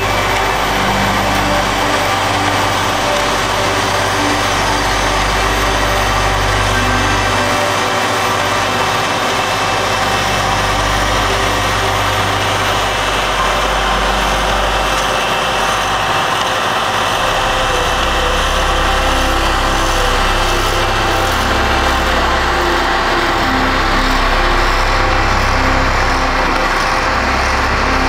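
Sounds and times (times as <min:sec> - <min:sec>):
paving machinery engine drone: 0:00.0 - 0:28.0.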